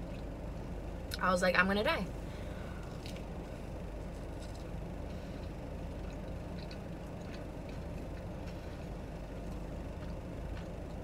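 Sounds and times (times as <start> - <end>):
low car interior hum: 0.0 - 11.0.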